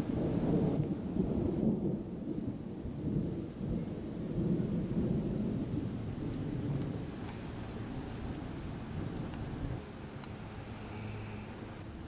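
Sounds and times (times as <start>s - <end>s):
faint rain hiss: 0.0s - 12.0s
thunder rumbling: 0.0s - 12.0s.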